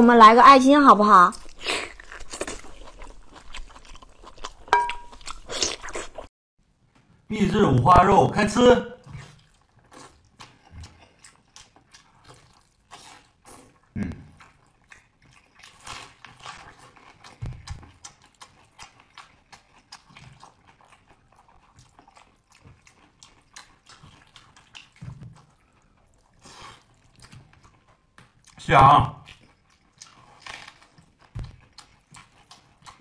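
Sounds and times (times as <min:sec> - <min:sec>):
wet chewing and mouth clicks: 0:01.2 - 0:06.3, 0:09.0 - 0:28.6, 0:29.2 - 0:33.0.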